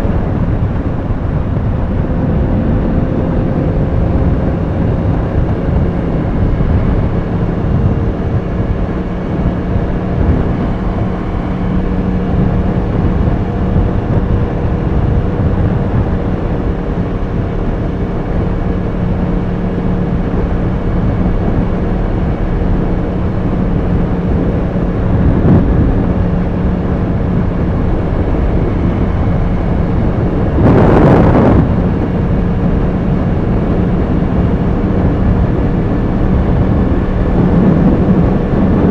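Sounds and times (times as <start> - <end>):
loud rush of noise: 0.0 - 38.9
motorcycle engine running: 0.0 - 38.9
wind and road noise: 0.0 - 38.9.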